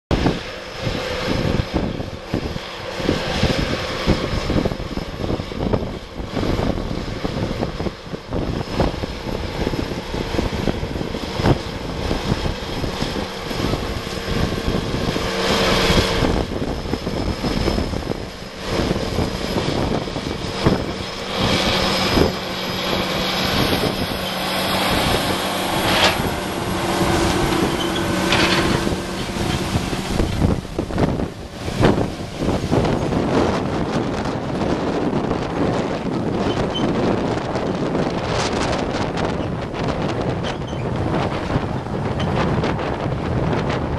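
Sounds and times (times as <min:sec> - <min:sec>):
tractor diesel engine under load: 0:00.1 - 0:43.9
wind buffeting microphone: 0:00.1 - 0:43.9.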